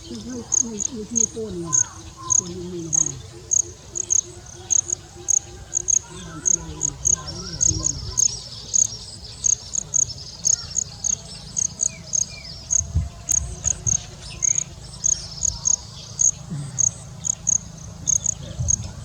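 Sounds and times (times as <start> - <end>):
insects chirping: 0.0 - 19.0
steady high insect trill: 0.0 - 19.0.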